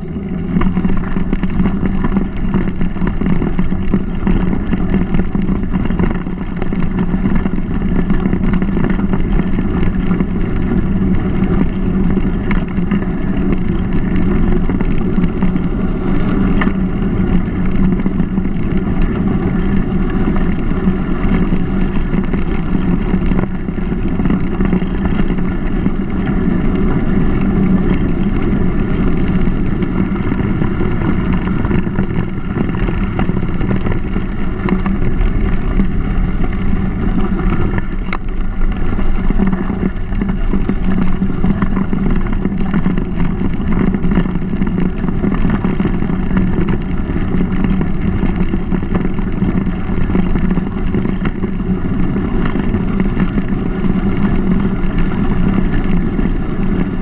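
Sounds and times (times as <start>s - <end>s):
bike rattles and clicks: 0.0s - 57.0s
bike tyres rolling on trail: 0.0s - 57.0s
wind noise: 0.0s - 57.0s.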